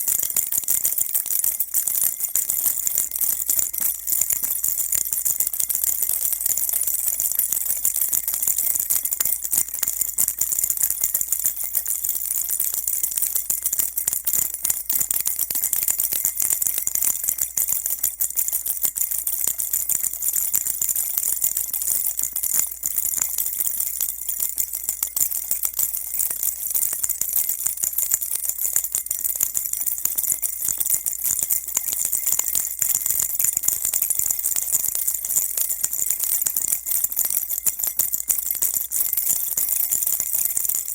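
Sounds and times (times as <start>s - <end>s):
baby rattle jingling: 0.0s - 40.9s.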